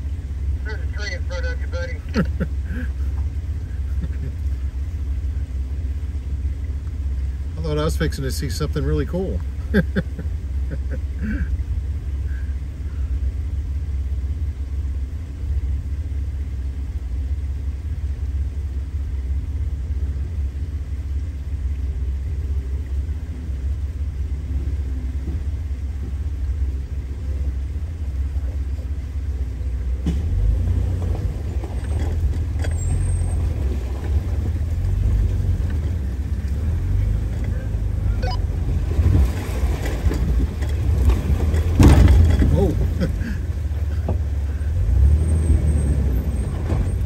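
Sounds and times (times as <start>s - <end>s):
car engine rumbling: 0.0s - 47.0s.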